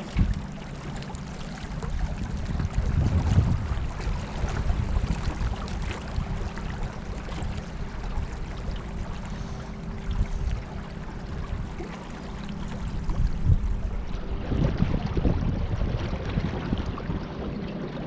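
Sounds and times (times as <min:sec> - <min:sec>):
faint steady hum: 0:00.0 - 0:18.0
low rumble: 0:00.0 - 0:18.0
water sloshing around a boat: 0:00.0 - 0:18.0.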